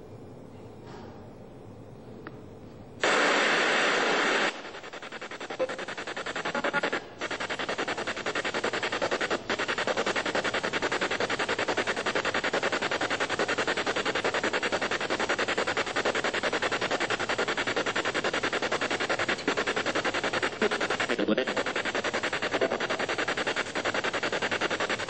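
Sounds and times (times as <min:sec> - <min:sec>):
chopped radio static: 0:03.0 - 0:25.0.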